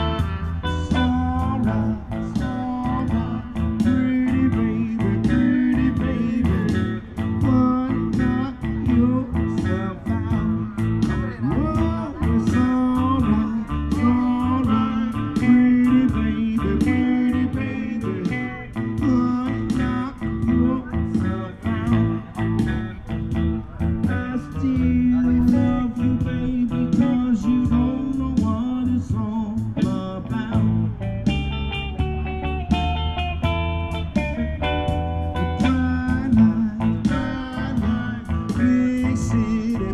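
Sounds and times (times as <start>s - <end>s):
blues guitar music: 0.0s - 39.9s.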